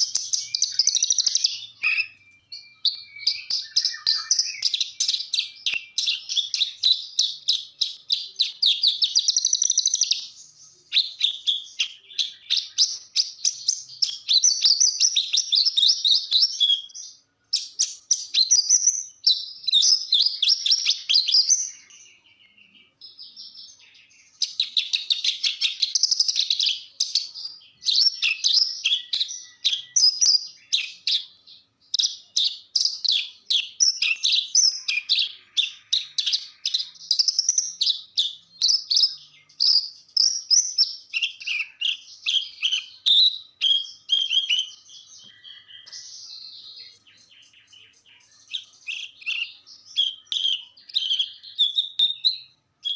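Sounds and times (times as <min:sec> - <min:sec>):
bird singing fast chattering song: 0:00.0 - 0:52.9.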